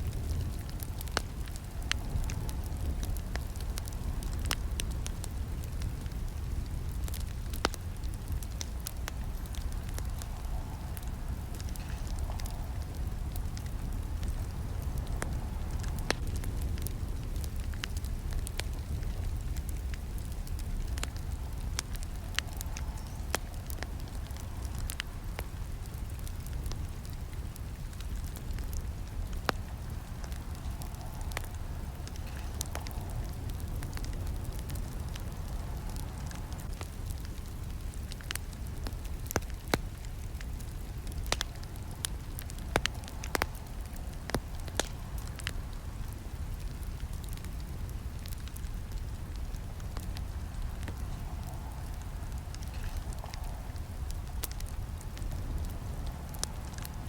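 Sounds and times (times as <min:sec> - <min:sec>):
campfire flames rushing: 0:00.0 - 0:57.0
fire crackling and popping: 0:00.0 - 0:57.0.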